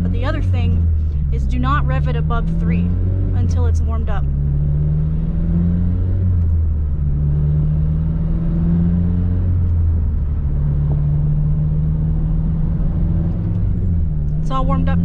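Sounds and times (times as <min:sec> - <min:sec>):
car engine at low revs: 0:00.0 - 0:15.0
road noise: 0:00.0 - 0:15.0.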